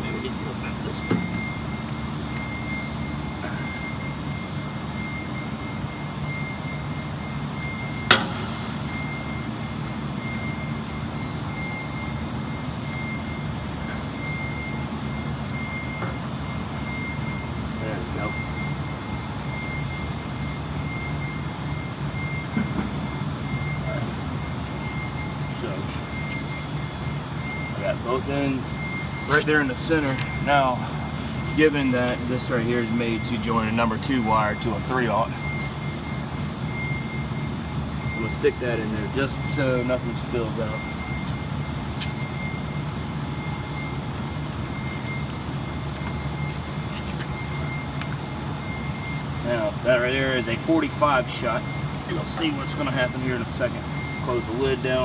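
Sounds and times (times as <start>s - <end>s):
faint high whine: 0.0s - 55.0s
low mechanical hum: 0.0s - 55.0s.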